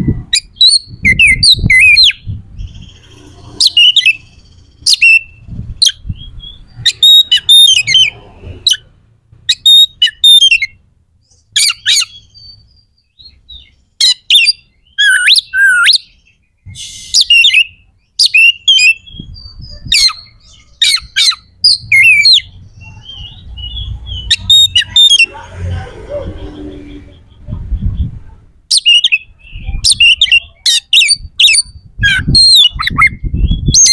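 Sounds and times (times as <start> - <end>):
songbird singing harsh phrases: 0.0 - 33.9.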